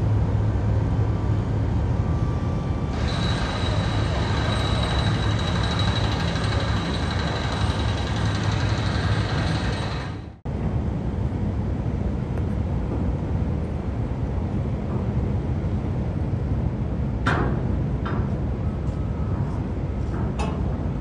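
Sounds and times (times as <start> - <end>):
low machinery hum: 0.0 - 21.0.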